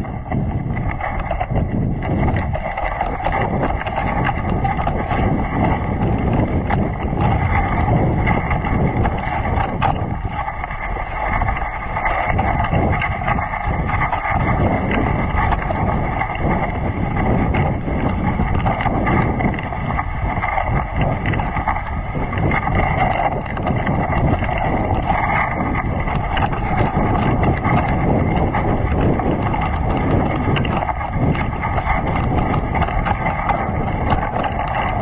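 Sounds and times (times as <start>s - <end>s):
sled clicks and rattles: 0.0s - 35.0s
sled runners scraping on snow: 0.0s - 35.0s
wind on microphone: 0.0s - 35.0s.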